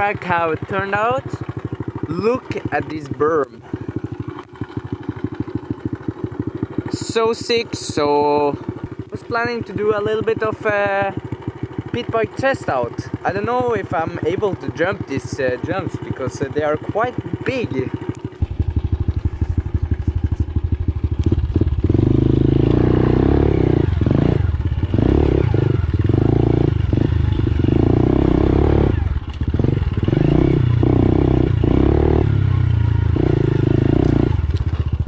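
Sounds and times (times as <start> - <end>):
pit bike engine revving: 0.0 - 35.0.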